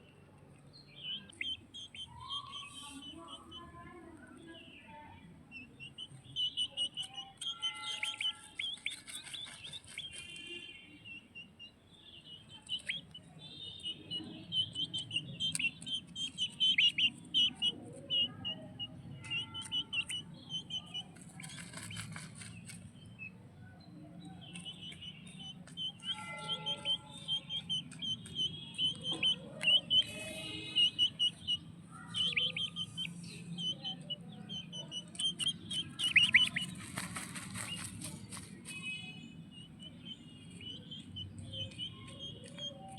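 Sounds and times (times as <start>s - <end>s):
baby bird chirping: 1.0s - 3.8s, 5.5s - 23.4s, 24.2s - 42.9s.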